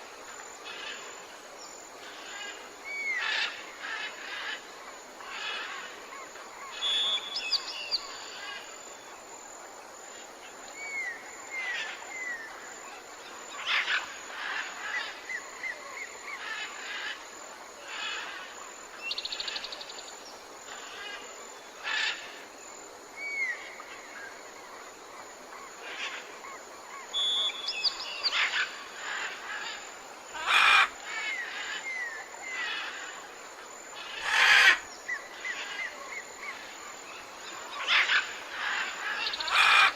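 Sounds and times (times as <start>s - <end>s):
background hiss: 0.0s - 39.9s
wild birds chirping: 0.3s - 39.9s.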